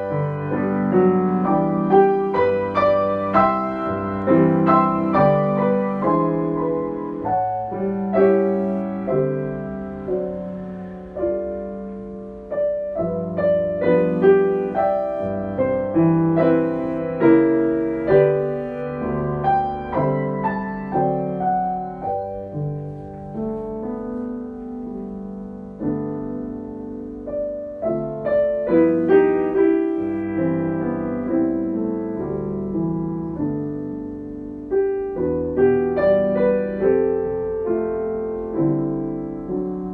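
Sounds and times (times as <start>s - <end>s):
slow solo piano: 0.0s - 39.9s.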